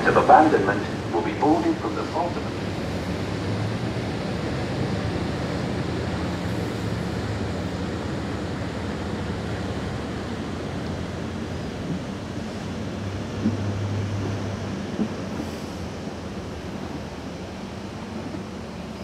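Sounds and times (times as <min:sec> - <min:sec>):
hiss of wind and water: 0:00.0 - 0:19.0
ship low hum: 0:00.0 - 0:19.0.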